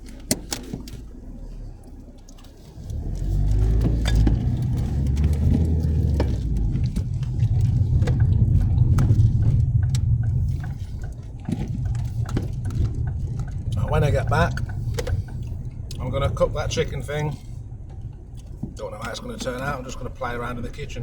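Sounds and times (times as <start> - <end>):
car engine rumble: 0.0 - 21.0
light clicks and knocks: 0.0 - 21.0
road noise: 0.0 - 21.0.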